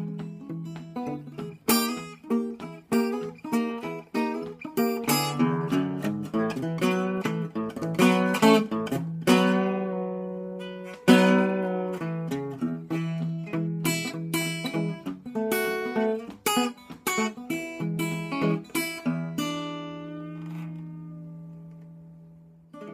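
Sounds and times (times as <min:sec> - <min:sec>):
acoustic guitar country blues: 0:00.0 - 0:22.9.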